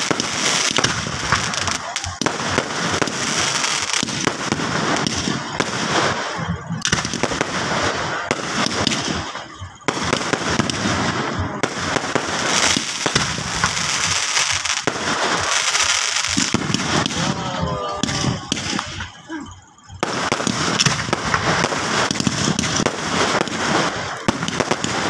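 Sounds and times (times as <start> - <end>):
fireworks bangs and crackle: 0.0 - 25.0.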